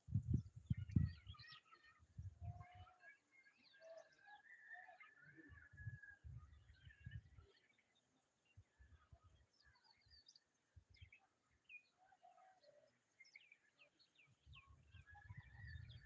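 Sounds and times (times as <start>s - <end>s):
faint bird chirps: 0.2s - 16.0s.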